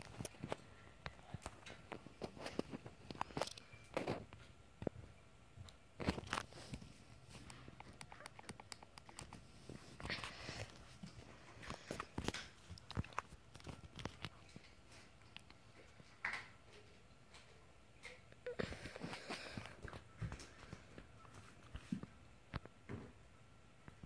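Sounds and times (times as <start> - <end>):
soft handling clicks and rustles: 0.0 - 23.0.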